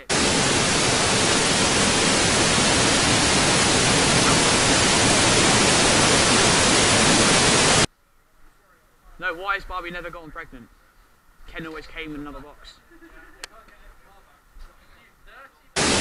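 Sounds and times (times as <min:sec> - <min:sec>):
static hiss: 0:00.0 - 0:16.0.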